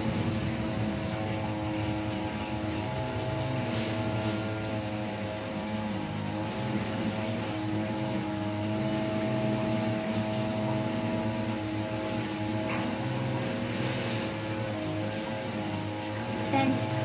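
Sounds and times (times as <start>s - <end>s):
motor hum with held tones: 0.0s - 17.0s.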